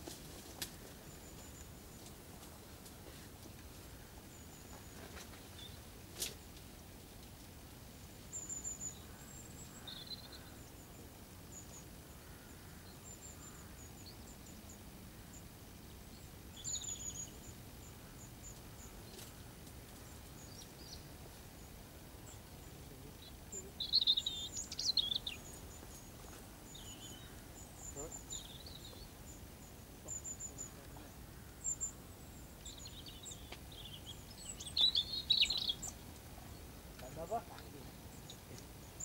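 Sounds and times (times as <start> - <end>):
low background noise: 0.0 - 39.0
small birds chirping: 0.0 - 39.0.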